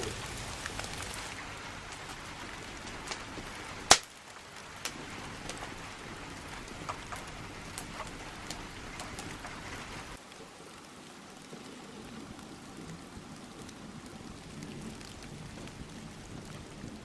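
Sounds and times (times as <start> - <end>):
raindrops ticking on surfaces: 0.0 - 17.0
steady rain falling: 0.0 - 17.0.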